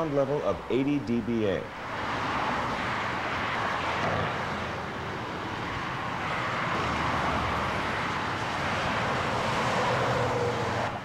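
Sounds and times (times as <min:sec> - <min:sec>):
dense highway traffic: 0:00.0 - 0:11.0.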